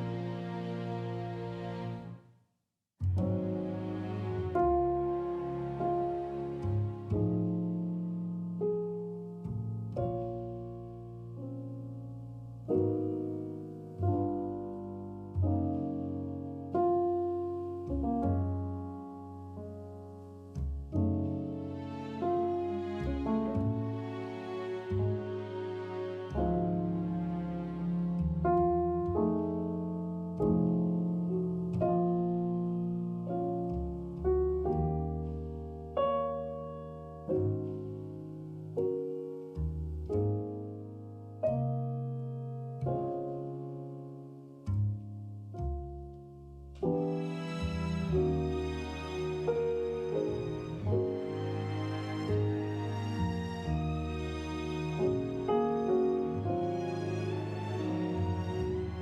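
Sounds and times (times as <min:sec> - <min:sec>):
slow piano chords: 0:00.0 - 0:02.2, 0:03.0 - 0:59.0.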